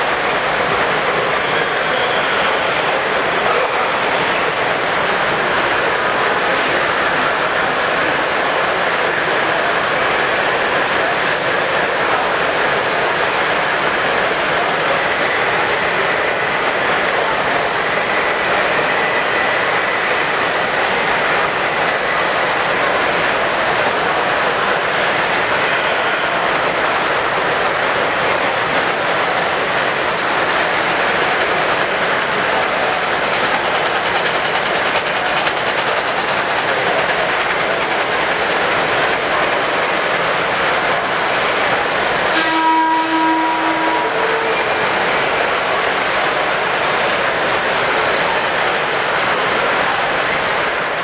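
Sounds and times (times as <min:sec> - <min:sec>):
model trains rolling: 0:00.0 - 0:51.0.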